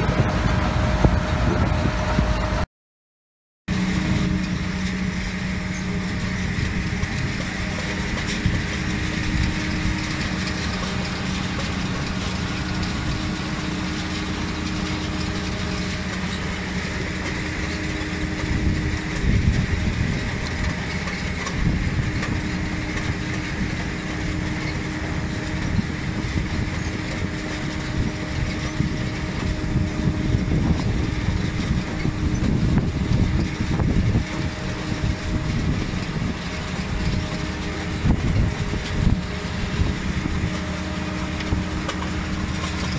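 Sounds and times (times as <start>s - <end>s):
rough uneven low rumble: 0.0s - 2.6s, 3.7s - 42.9s
harvester engine and machinery hum: 0.0s - 2.7s, 3.7s - 42.9s.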